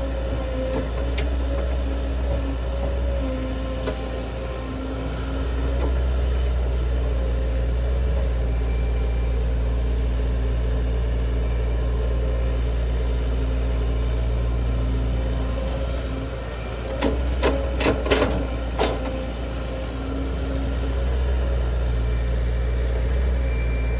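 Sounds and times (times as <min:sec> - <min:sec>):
diesel engine running: 0:00.0 - 0:23.9
faint steady whine: 0:00.0 - 0:23.9.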